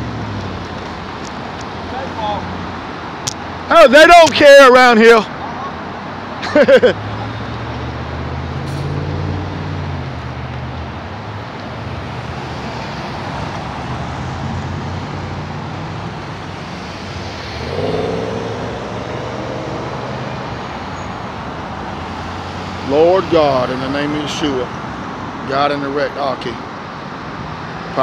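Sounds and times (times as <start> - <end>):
cars and trucks driving past: 0.0 - 28.0.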